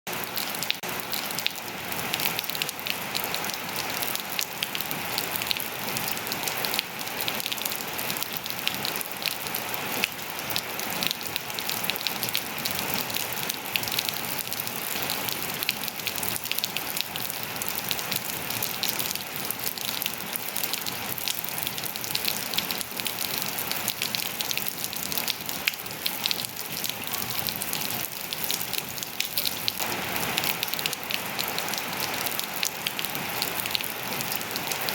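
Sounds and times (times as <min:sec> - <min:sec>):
rain on hard surfaces: 0:00.1 - 0:34.9.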